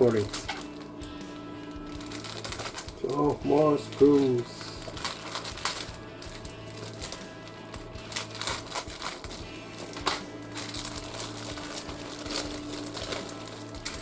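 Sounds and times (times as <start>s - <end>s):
plastic sprues clicking and rattling: 0.0s - 1.0s, 1.8s - 14.0s
plastic bags crinkling: 0.0s - 14.0s.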